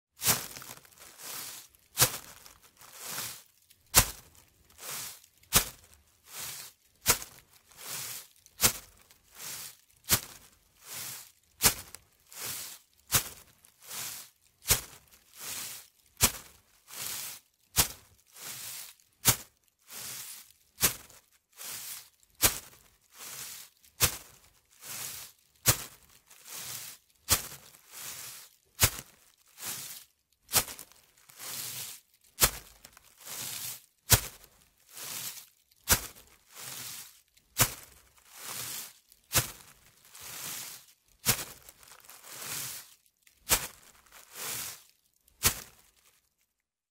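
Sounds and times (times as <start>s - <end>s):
footsteps crunching on leaves: 0.2s - 46.1s.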